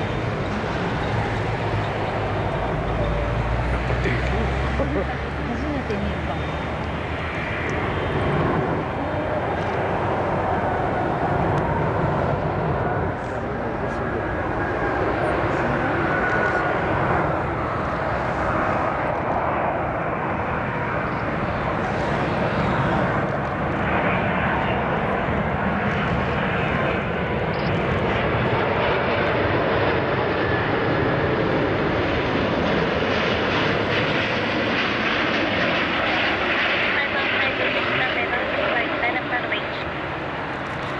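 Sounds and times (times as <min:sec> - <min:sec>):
jet engine roar with whine: 0:00.0 - 0:40.9.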